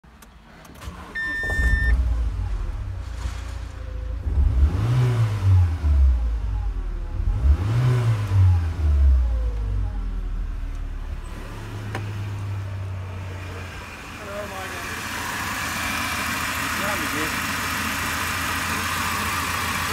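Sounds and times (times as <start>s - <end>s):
car engine revving and idling: 0.1s - 19.9s.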